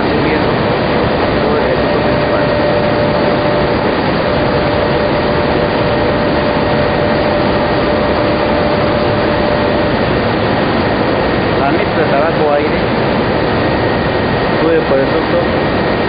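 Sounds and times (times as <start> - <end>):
loud machinery rush: 0.0 - 16.0
machine whine: 0.0 - 16.0.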